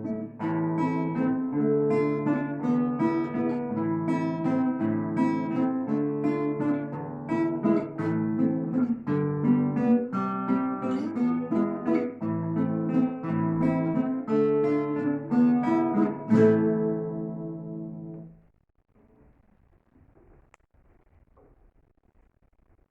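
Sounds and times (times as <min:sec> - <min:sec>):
acoustic guitars duet: 0:00.0 - 0:18.4.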